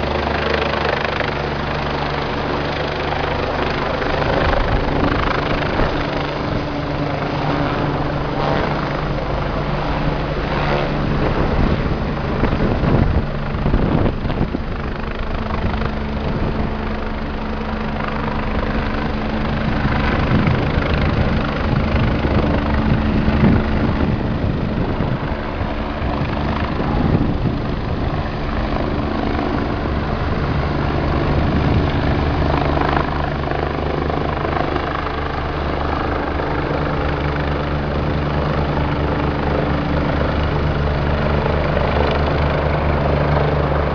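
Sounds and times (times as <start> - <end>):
helicopter rotor and turbine drone: 0.0 - 43.9.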